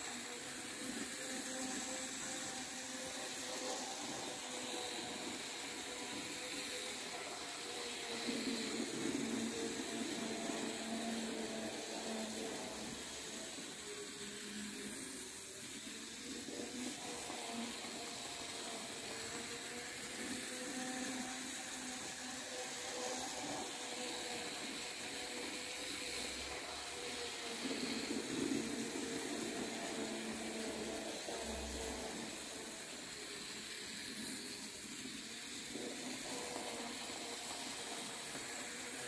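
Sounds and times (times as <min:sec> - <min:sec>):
faint wavering whine: 0:00.0 - 0:39.0
model train motor whirring: 0:00.0 - 0:39.0.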